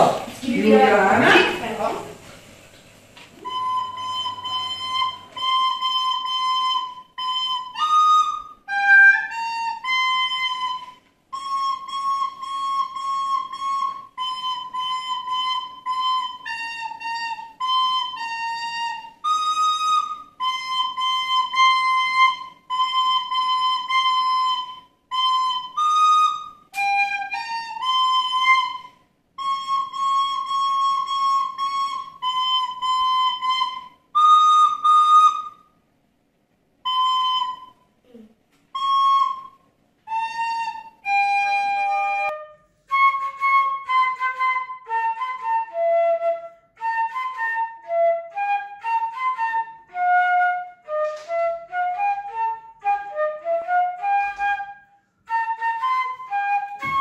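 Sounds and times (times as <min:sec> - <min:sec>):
child playing recorder: 0:03.4 - 0:35.6, 0:36.8 - 0:57.0.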